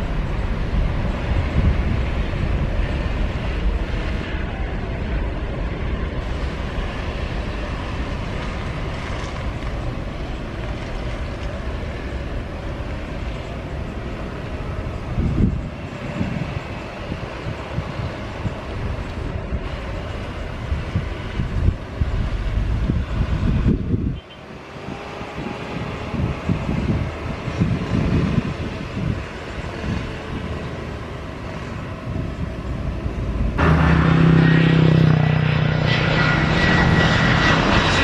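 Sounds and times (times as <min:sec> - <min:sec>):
jet airliner taking off: 0:00.0 - 0:38.0
wind buffeting microphone: 0:00.0 - 0:38.0.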